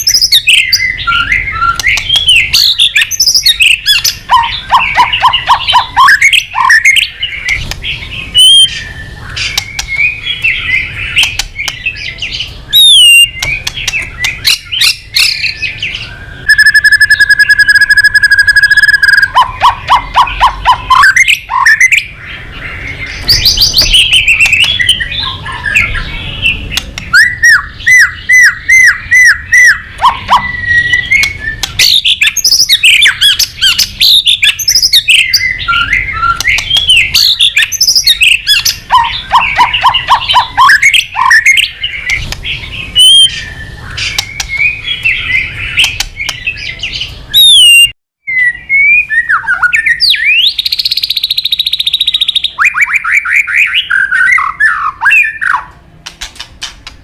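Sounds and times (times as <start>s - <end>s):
songbird singing varied song: 0.0s - 55.7s.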